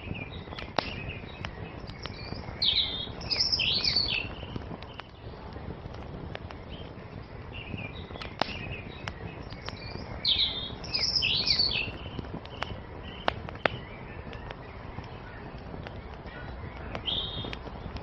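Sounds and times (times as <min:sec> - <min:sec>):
songbirds chirping: 0:00.0 - 0:18.0
wood fire crackling and popping: 0:00.0 - 0:18.0.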